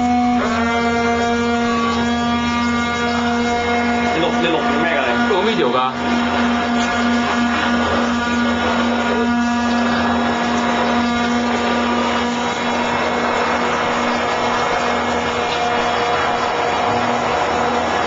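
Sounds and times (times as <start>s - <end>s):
propellers churning water: 0.0s - 18.0s
small electric motors running: 0.0s - 18.0s.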